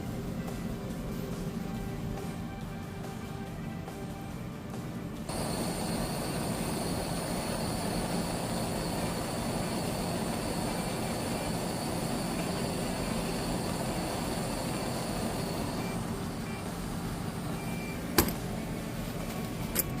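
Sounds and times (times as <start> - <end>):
faint high whine: 0.0 - 20.0
mechanical rumble and hiss: 0.0 - 20.0.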